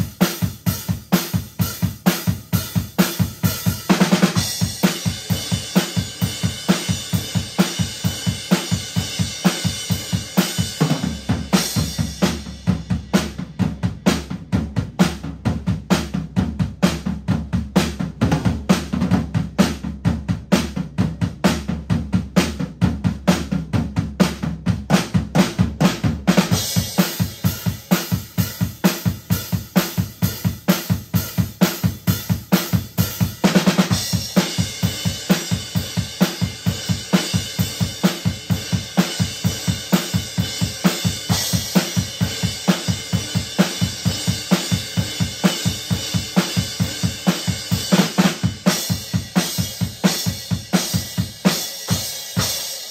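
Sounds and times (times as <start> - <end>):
drum kit groove: 0.0 - 52.9.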